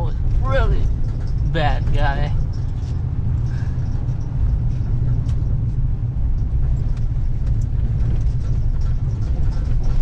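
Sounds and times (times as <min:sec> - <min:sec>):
truck diesel engine and tyre rumble: 0:00.0 - 0:10.0.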